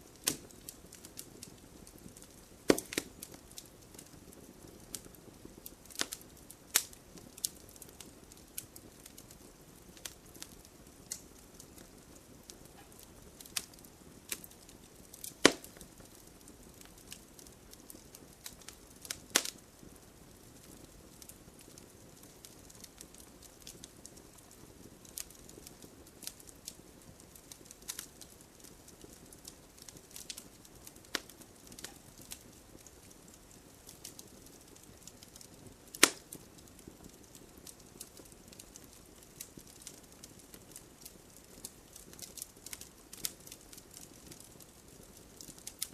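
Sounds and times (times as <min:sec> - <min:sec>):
wood fire crackling and snapping: 0:00.0 - 0:45.9.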